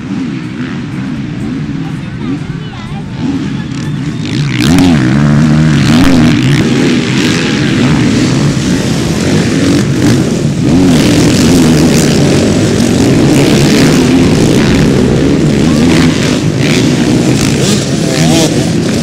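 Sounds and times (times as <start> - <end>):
motocross motorcycles revving: 0.0 - 19.0.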